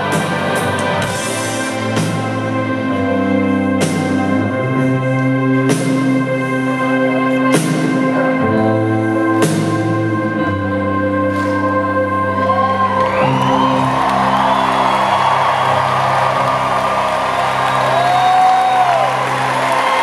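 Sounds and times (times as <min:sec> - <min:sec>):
live rock band playing: 0:00.0 - 0:11.9, 0:12.6 - 0:20.0.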